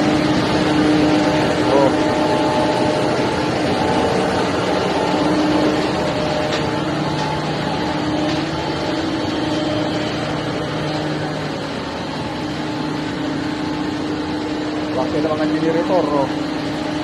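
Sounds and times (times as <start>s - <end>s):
constant low hum: 0.0s - 17.0s
engine room machinery drone: 0.0s - 17.0s.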